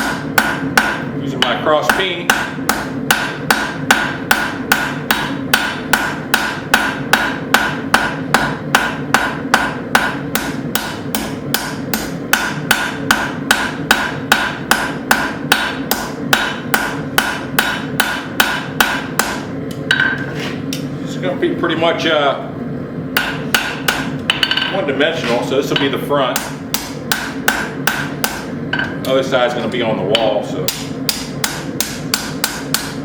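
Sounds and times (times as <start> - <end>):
hammer striking hot steel on anvil: 0.0 - 20.9, 23.2 - 29.1, 30.1 - 33.0.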